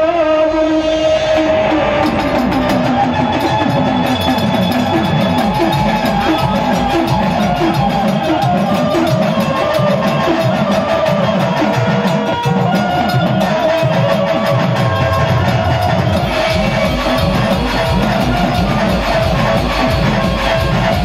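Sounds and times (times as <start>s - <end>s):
double-headed drum pitch swooping: 0.4s - 21.0s.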